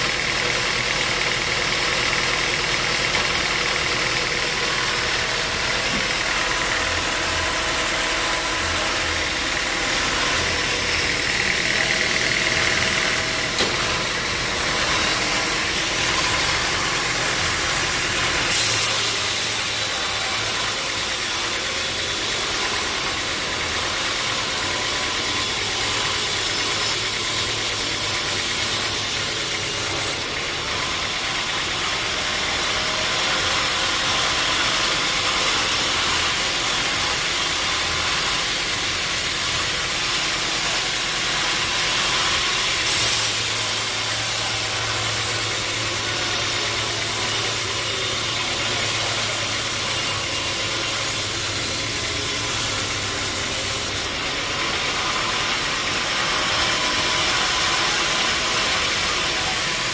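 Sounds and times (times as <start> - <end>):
engine drone: 0.0 - 59.9
hissing saw and mill noise: 0.0 - 59.9.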